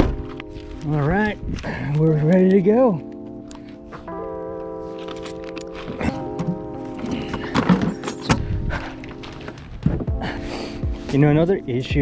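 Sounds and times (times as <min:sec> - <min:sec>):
background music with sustained notes: 0:00.0 - 0:12.0.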